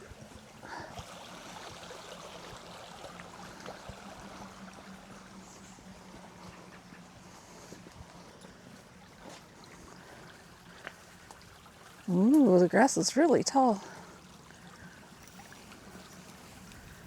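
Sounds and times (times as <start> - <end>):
creek running water: 0.0 - 17.0.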